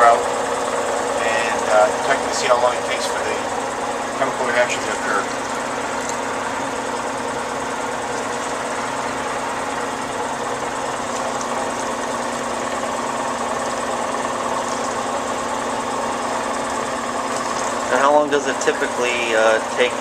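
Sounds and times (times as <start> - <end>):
engine hum with steady tones: 0.0 - 20.0
machinery drone: 0.0 - 20.0.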